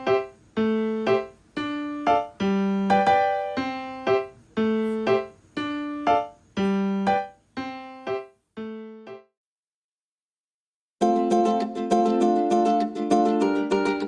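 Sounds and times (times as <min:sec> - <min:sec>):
piano melody of single notes: 0:00.0 - 0:09.3, 0:11.0 - 0:14.0.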